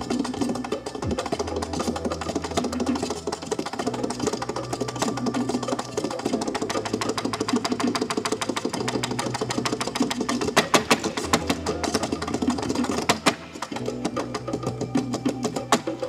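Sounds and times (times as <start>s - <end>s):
tap shoes tapping on board: 0.2s - 16.0s.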